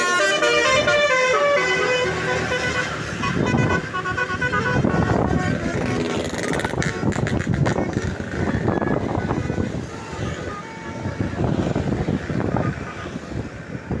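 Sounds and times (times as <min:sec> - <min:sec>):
multi-tone bus horn: 0:00.0 - 0:13.7
bus passing by: 0:00.0 - 0:14.0.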